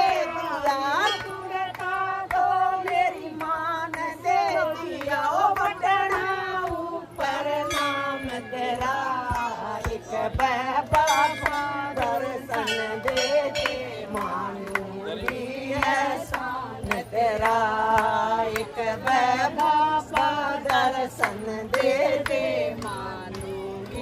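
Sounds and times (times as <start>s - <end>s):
hand claps keeping beat: 0.0s - 24.0s
women singing devotional song: 0.0s - 24.0s.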